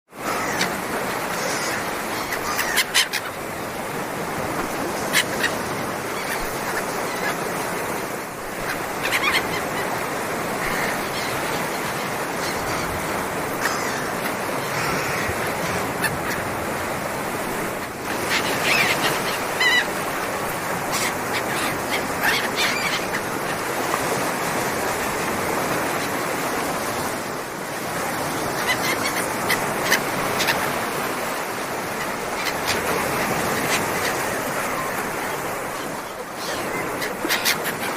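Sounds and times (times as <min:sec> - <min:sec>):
sea surf washing: 0:00.1 - 0:37.9.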